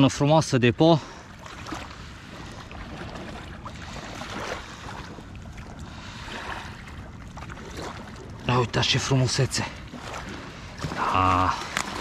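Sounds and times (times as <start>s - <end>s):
river water: 0.0s - 12.0s
wind: 0.0s - 12.0s.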